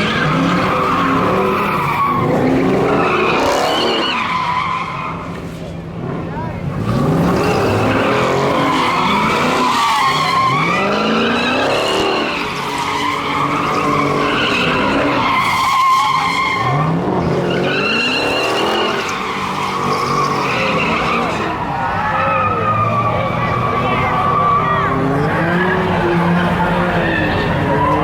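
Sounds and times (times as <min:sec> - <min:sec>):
tyres squealing: 0:00.0 - 0:05.4, 0:07.3 - 0:28.0
car engine revving: 0:00.0 - 0:28.0.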